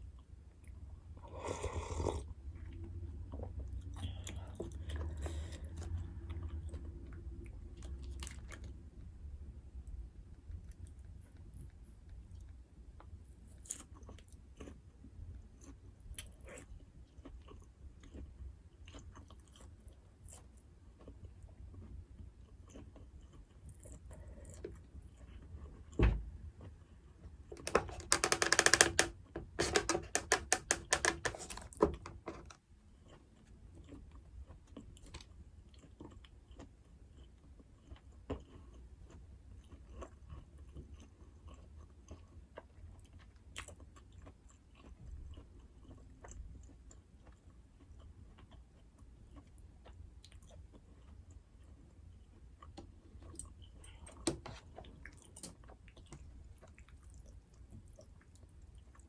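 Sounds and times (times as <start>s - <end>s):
chewing and eating: 0.0s - 27.7s, 31.4s - 59.0s.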